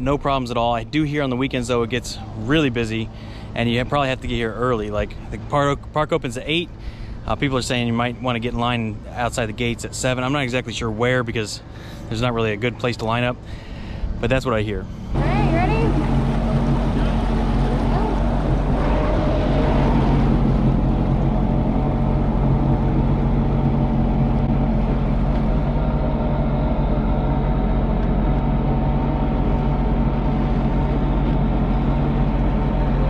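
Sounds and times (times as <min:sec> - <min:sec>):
jet ski engine droning: 0:00.0 - 0:33.0
water rushing along hull: 0:00.0 - 0:33.0.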